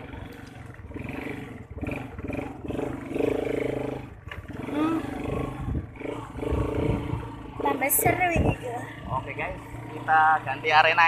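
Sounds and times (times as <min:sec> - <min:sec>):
quad engine running: 0:00.0 - 0:11.0.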